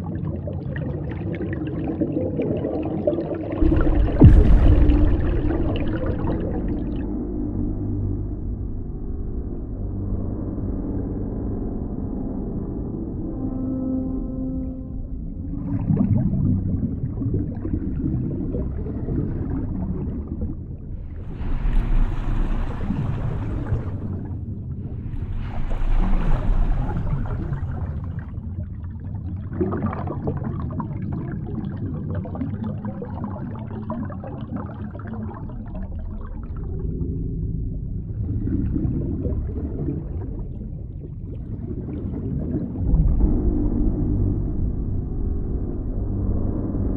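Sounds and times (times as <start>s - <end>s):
underwater churning rumble and bubbles: 0.0s - 46.9s.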